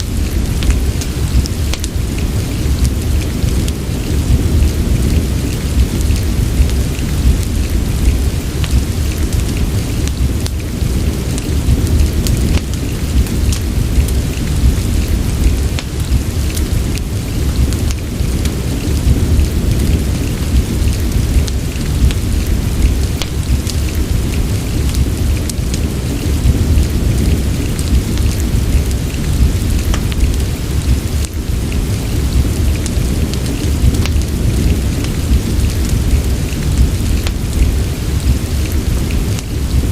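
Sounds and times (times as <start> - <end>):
deep low rumble: 0.0 - 39.9
fire crackling: 0.0 - 39.9
rain hiss: 0.0 - 39.9.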